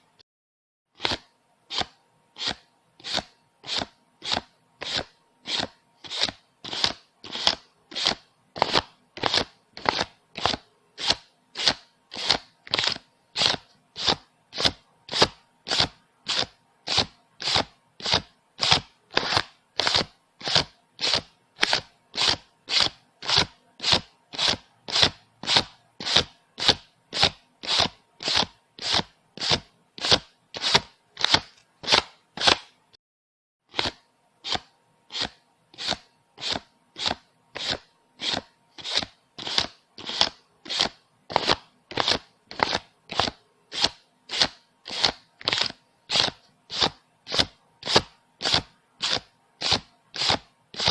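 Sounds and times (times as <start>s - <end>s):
banknotes being counted: 1.0s - 32.7s, 33.7s - 50.9s.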